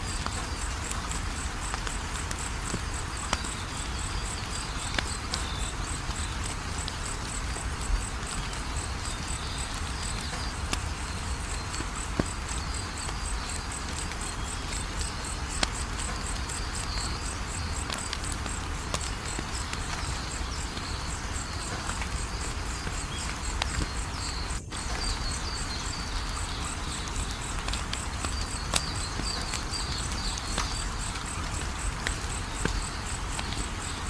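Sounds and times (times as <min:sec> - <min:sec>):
insect chirping: 0:00.0 - 0:34.0
wood fire crackling: 0:00.0 - 0:34.0.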